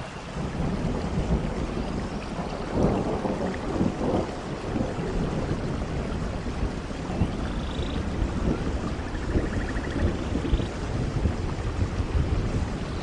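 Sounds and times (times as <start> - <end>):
rain hissing: 0.0 - 13.0
thunder rumbling: 0.0 - 13.0.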